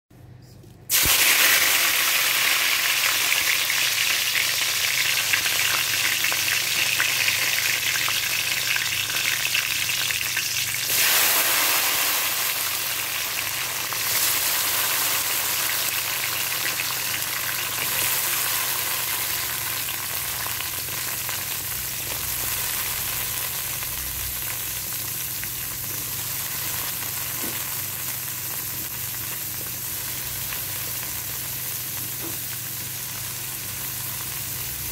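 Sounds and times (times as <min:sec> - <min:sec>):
vegetables sizzling in oil: 0:00.9 - 0:34.9.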